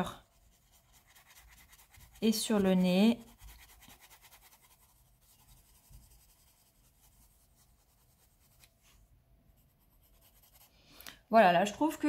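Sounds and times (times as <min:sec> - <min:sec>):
pencil scratching on paper: 0:00.0 - 0:10.8.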